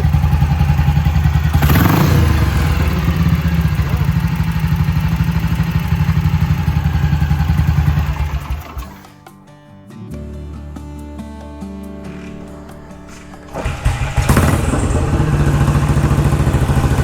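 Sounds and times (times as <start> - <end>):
single-cylinder motorcycle engine running: 0.0 - 9.2, 12.1 - 17.0.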